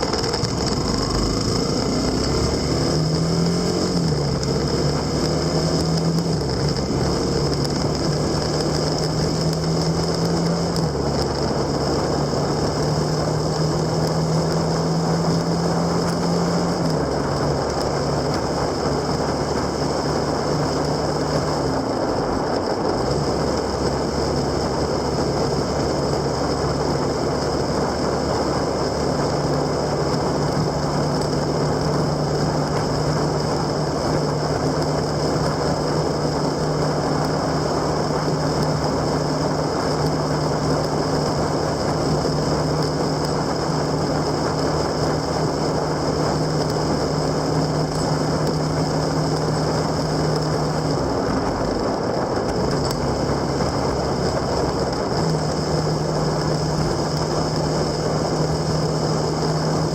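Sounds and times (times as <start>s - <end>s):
vehicle engine running: 0.0s - 59.9s
wind and road noise: 0.0s - 59.9s.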